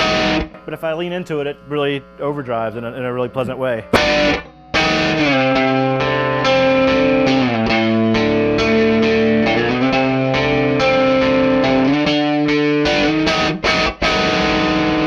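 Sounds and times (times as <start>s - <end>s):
overdriven electric guitar chords: 0.0s - 2.2s, 3.3s - 15.0s.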